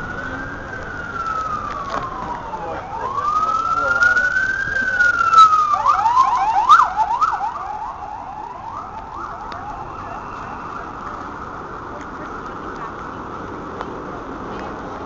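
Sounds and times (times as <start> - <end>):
emergency siren wailing and yelping: 0.0 - 13.2
street noise: 0.0 - 15.0.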